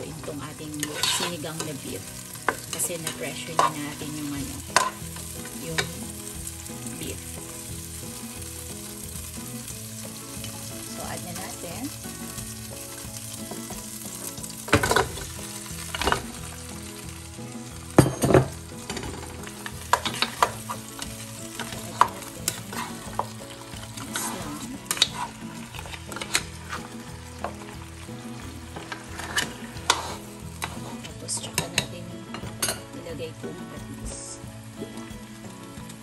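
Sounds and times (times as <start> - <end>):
oil sizzling in a pot: 0.0 - 36.0.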